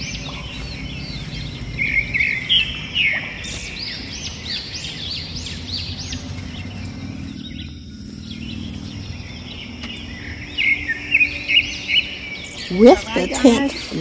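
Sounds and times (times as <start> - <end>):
low outdoor rumble: 0.0 - 14.0
songbird chirping: 0.0 - 14.0.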